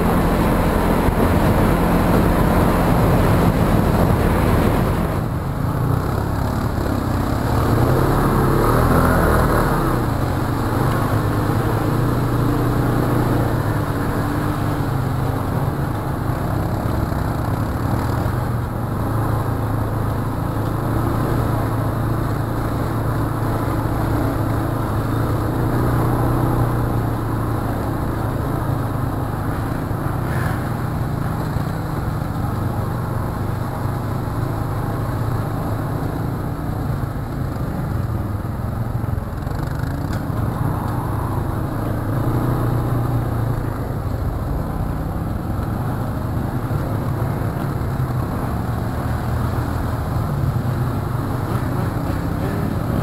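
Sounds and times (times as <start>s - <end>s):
constant rushing noise: 0.0s - 53.0s
quad engine running: 0.0s - 53.0s.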